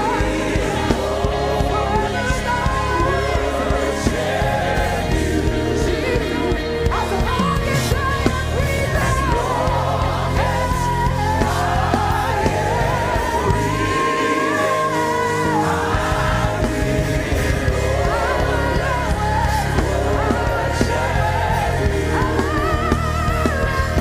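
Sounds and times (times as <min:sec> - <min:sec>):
band accompaniment: 0:00.0 - 0:24.0
gospel singing voices: 0:00.0 - 0:24.0.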